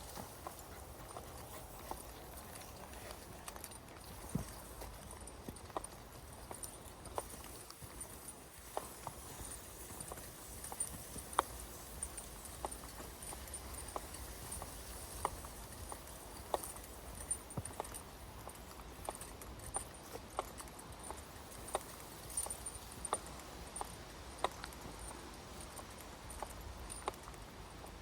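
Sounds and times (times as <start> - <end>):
footsteps on hard path: 0.0 - 28.0.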